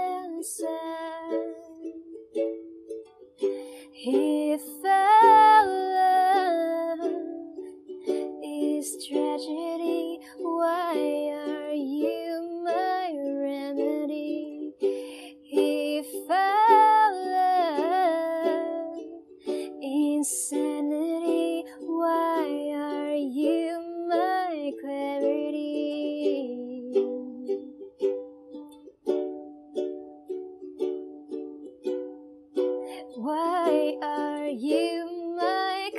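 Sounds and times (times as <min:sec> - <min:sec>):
ukulele chords: 0:00.0 - 0:35.9.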